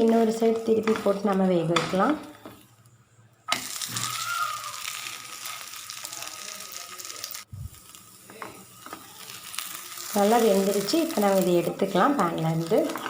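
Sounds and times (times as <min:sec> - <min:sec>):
dosa sizzling in oil: 0:00.0 - 0:13.0.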